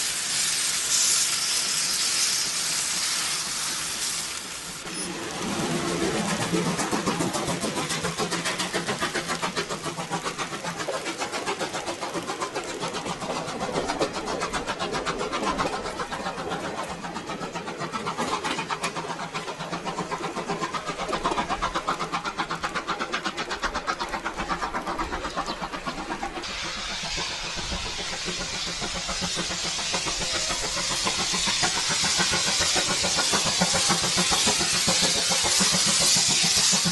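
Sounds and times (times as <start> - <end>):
steam hissing: 0.0 - 36.9
steam locomotive exhaust chuffs: 0.0 - 36.9.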